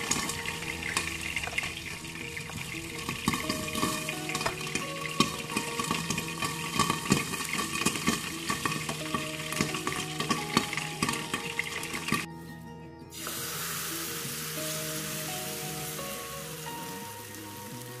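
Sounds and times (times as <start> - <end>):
fritters sizzling in hot oil: 0.0 - 12.3, 13.2 - 18.0.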